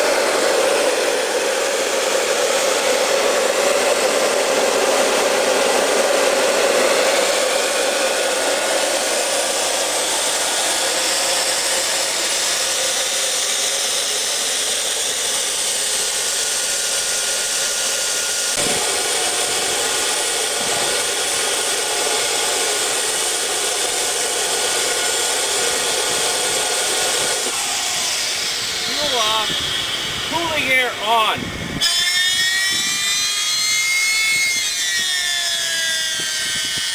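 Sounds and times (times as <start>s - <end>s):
turbojet engine rushing whoosh: 0.0s - 36.9s.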